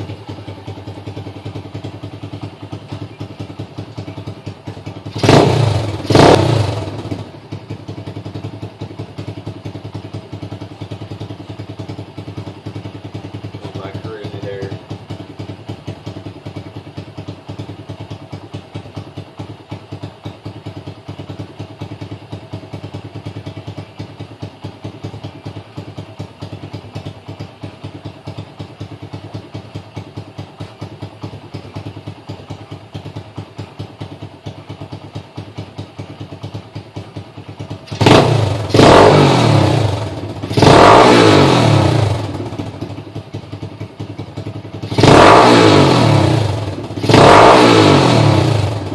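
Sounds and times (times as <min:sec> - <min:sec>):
dirt bike engine idling and revving: 0:00.0 - 0:48.9.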